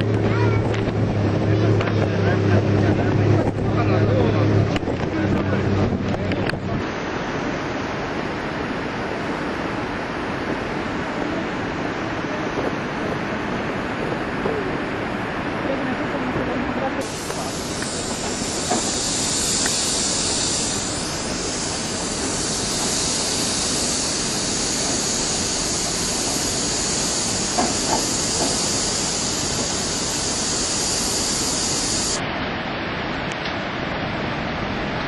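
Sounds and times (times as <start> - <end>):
river rapids rushing: 0.0 - 35.0
strong high hiss: 0.0 - 35.0.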